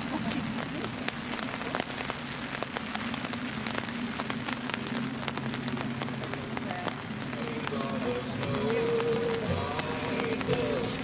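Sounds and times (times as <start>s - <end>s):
rain pattering on an umbrella: 0.0s - 11.0s.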